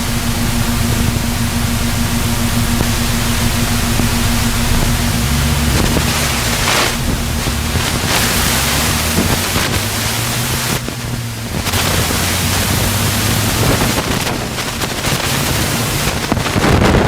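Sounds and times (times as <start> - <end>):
low engine hum: 0.0 - 17.0
wind rushing over microphone: 0.0 - 17.0.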